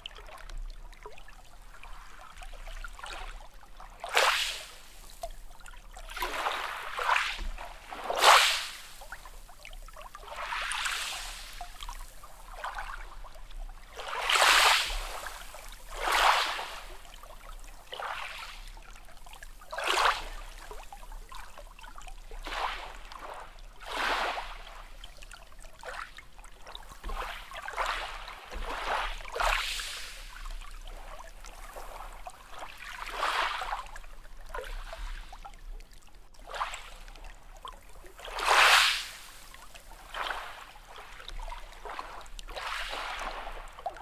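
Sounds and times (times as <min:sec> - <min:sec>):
small waves lapping: 0:00.0 - 0:44.0.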